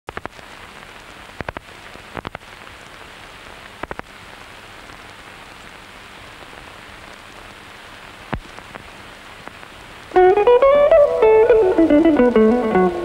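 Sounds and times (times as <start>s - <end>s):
film soundtrack hiss: 0.1s - 13.0s.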